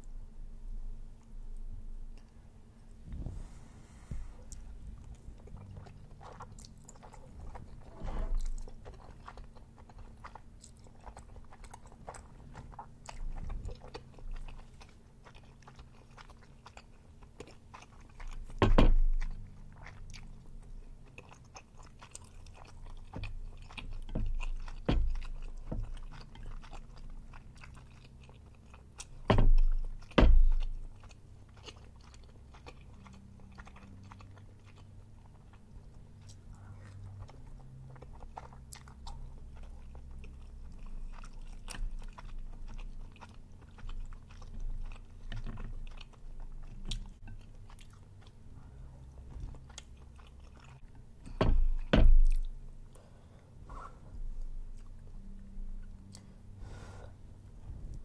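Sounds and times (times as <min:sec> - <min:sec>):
chewing and wet mouth sounds: 0:04.4 - 0:58.0.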